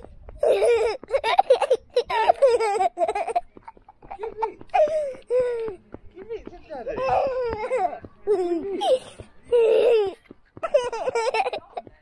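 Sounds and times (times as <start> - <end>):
boy laughing and giggling: 0.4 - 5.8, 7.0 - 11.9.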